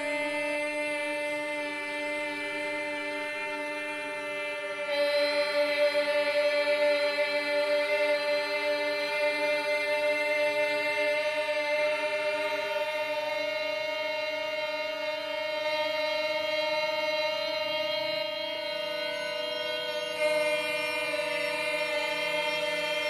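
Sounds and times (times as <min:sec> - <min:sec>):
choir-like drone chord: 0:00.0 - 0:23.0.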